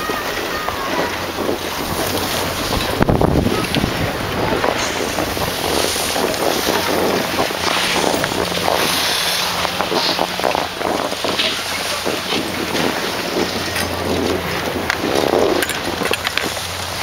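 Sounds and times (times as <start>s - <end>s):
skis gliding over snow: 0.0s - 17.0s
wind buffeting microphone: 0.0s - 17.0s.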